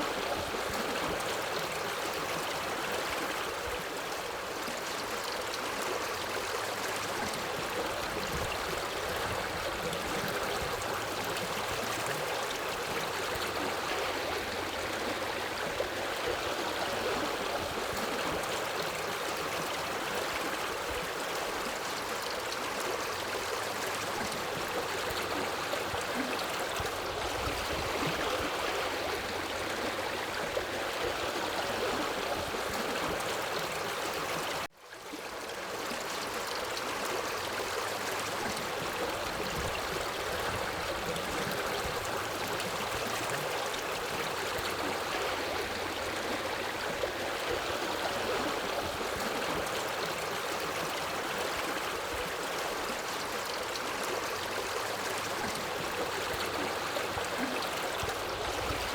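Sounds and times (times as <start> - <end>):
river water flowing over rocks: 0.0 - 58.9.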